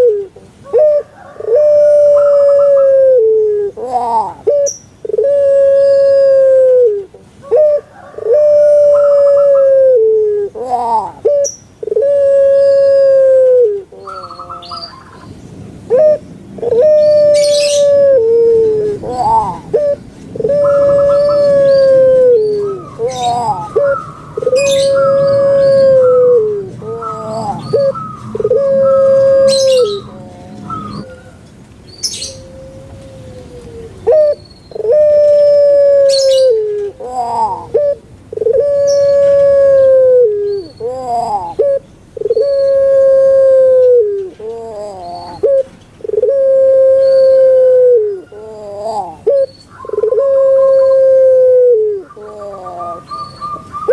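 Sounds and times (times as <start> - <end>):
dove cooing: 0.0 - 15.3, 15.9 - 31.4, 32.0 - 53.9.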